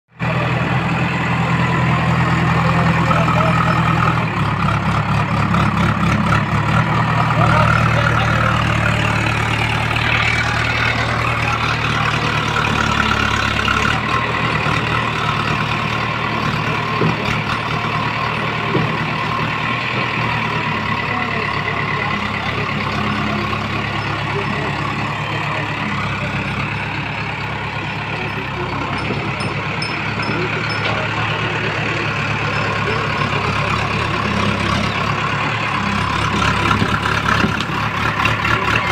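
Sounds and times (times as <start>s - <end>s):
diesel engine under load: 0.1s - 38.9s
loader bucket working mud: 0.1s - 38.9s.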